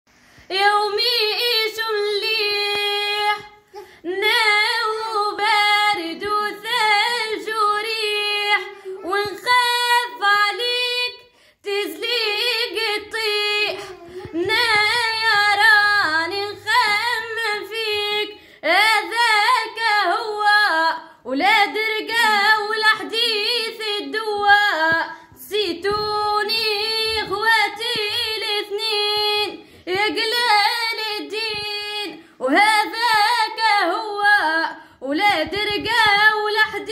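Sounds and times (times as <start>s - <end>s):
young woman singing: 0.4s - 36.9s.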